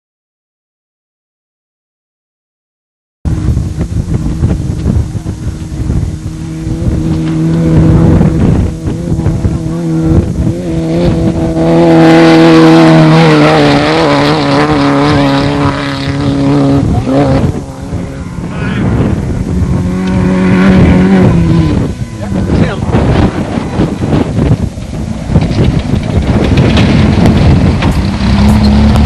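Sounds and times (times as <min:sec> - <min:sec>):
race car engine running: 0:03.3 - 0:29.0.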